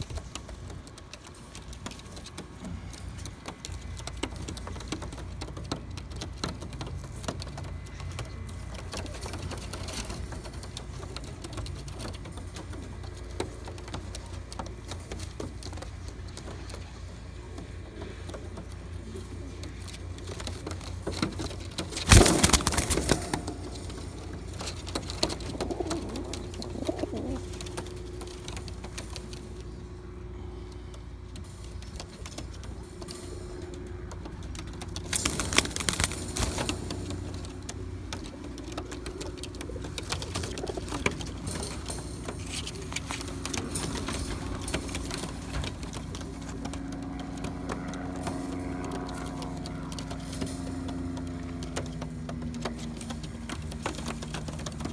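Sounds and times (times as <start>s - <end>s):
pigeons cooing: 4.7s - 54.9s.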